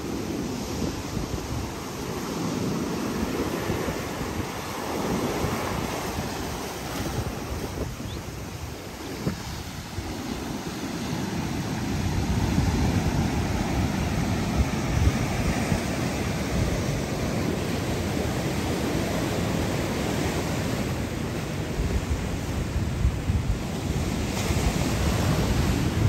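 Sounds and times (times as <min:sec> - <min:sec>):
ocean surf breaking over rocks: 0:00.0 - 0:26.0.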